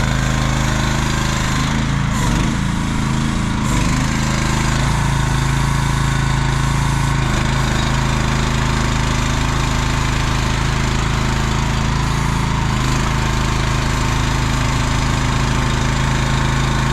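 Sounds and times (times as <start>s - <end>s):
small excavator engine running: 0.0s - 16.9s.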